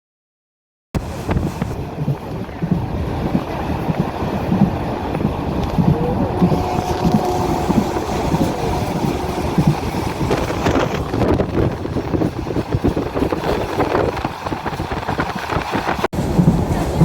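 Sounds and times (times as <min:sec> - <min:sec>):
train clatter: 0:01.0 - 0:17.0
train wheels rumbling on rails: 0:01.0 - 0:17.0.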